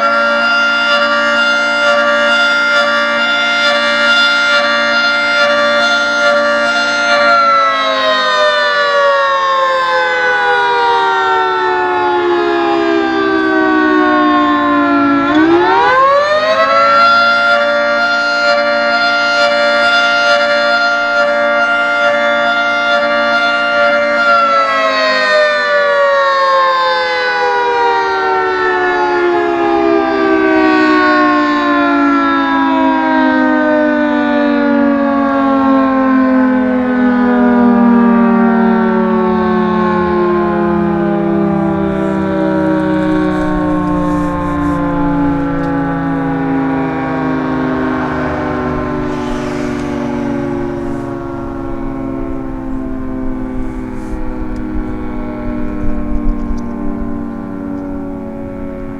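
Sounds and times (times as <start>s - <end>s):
fire siren wailing: 0.0s - 58.9s.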